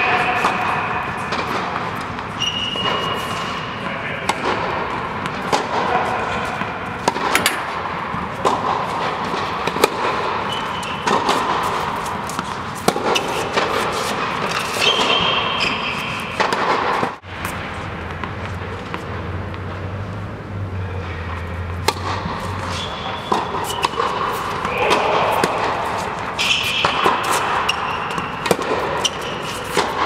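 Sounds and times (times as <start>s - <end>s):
tennis balls hit with rackets: 0.0s - 20.0s, 21.0s - 30.0s
indoor hall background noise: 0.0s - 30.0s.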